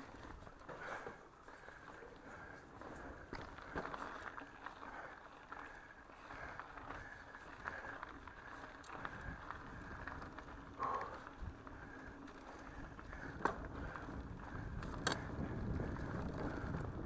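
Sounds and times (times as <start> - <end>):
bike clatter: 0.0 - 17.0
bike clicks and rattles: 0.0 - 17.0
bike tyres on dirt trail: 0.0 - 17.0.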